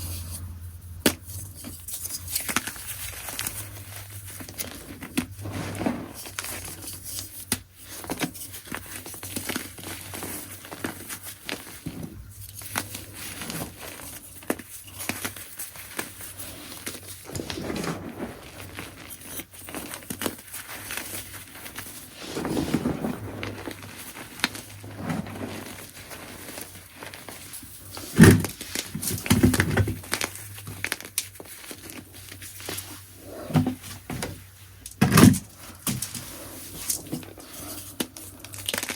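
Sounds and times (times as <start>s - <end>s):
chalk crunching and crumbling: 1.1s - 33.5s.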